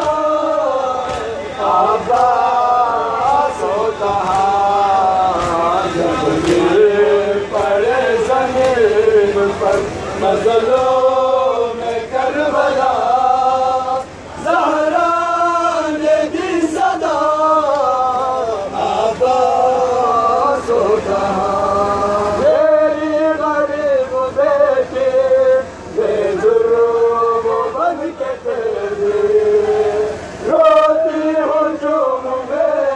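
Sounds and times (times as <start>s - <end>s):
men chanting a lament: 0.0s - 32.9s.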